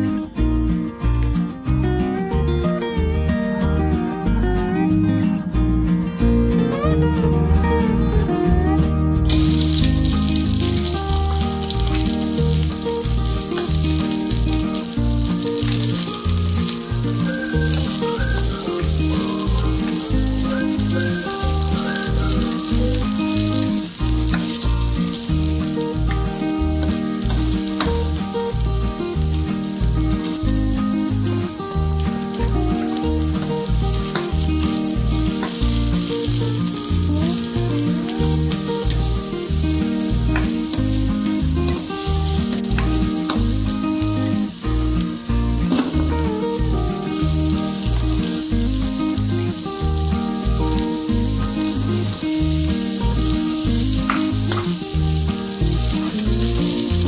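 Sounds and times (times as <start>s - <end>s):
background music: 0.0s - 57.0s
food sizzling in hot oil: 9.2s - 57.0s.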